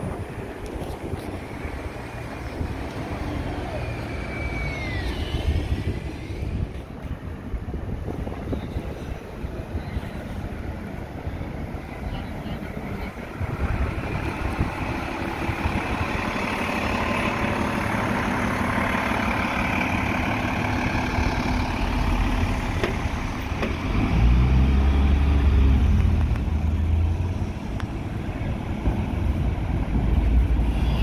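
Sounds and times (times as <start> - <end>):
diesel bus engine: 0.0 - 31.0
street traffic: 0.0 - 31.0.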